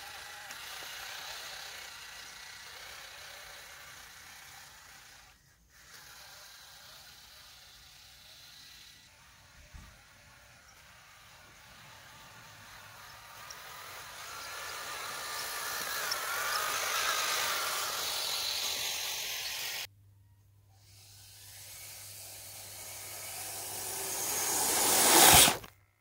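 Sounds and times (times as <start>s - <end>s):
model vehicle hissing through snow: 0.0s - 19.9s, 20.8s - 25.7s
faint wavering motor whine: 0.0s - 25.7s.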